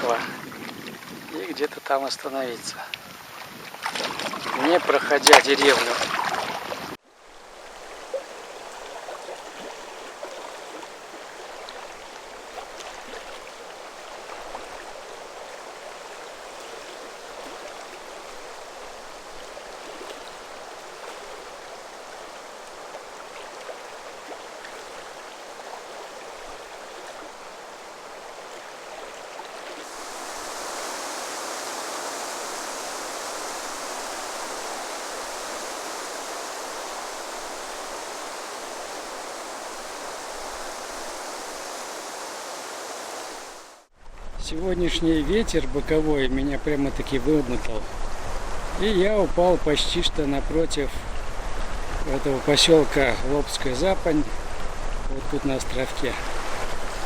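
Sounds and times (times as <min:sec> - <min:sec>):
water rushing: 0:00.0 - 0:57.0
small water splashes: 0:03.0 - 0:43.9, 0:51.0 - 0:57.0.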